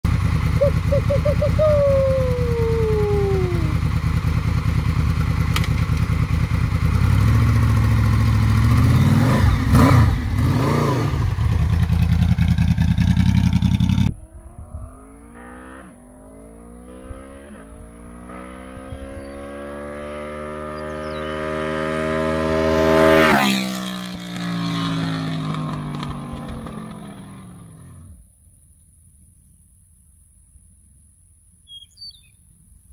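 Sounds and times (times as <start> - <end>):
motorcycle engine idling and revving: 0.0 - 28.2
motorcycle accelerating past: 0.1 - 28.2.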